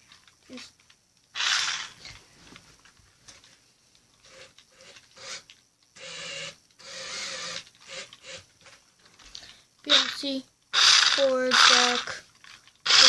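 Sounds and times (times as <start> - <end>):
toy car motor whirring: 0.5 - 2.2, 4.2 - 13.0.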